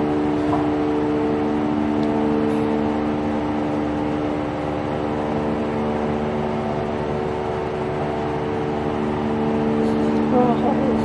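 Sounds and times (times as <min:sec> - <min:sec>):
machine hum with held tones: 0:00.0 - 0:11.0.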